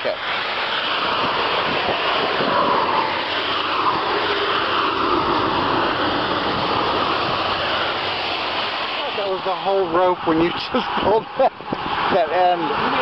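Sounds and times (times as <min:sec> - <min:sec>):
road traffic rushing by: 0:00.0 - 0:13.0.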